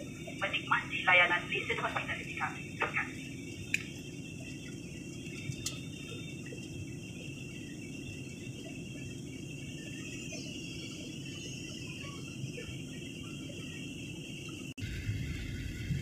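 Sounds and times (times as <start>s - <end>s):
airliner engine rumble: 0.0s - 16.0s
thin high whine: 0.0s - 16.0s.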